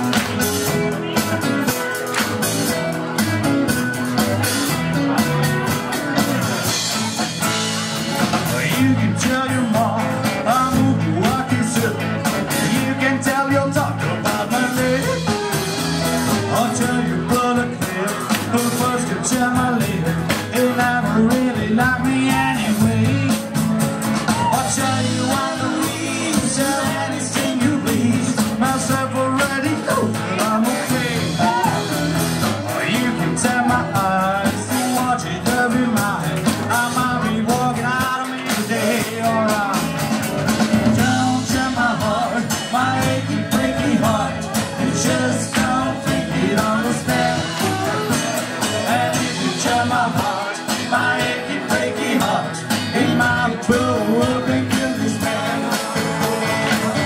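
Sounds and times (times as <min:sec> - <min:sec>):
live country band playing: 0:00.0 - 0:57.0
person singing: 0:04.4 - 0:57.0.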